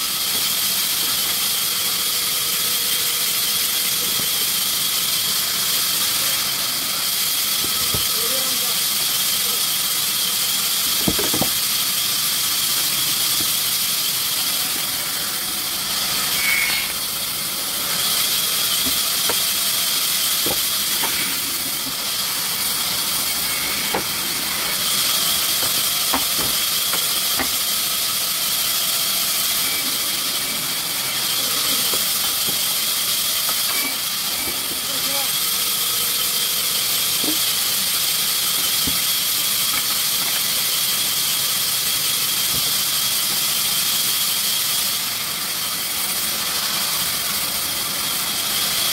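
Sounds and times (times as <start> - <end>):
sawmill machinery hissing and whining: 0.0 - 48.9.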